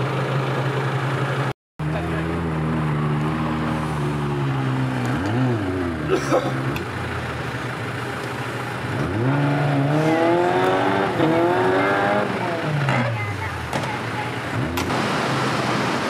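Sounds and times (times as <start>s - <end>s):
engine revving: 1.8s - 7.7s, 8.8s - 16.0s.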